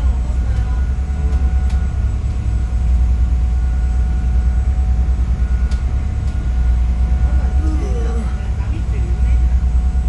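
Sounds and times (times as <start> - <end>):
boat engine drone: 0.0 - 10.0
water rushing along hull: 0.0 - 10.0.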